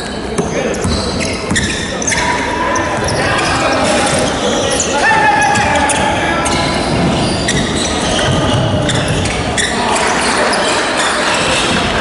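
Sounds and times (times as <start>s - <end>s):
hubbub of gymnasium: 0.0s - 12.0s
players running on hardwood court: 0.0s - 12.0s.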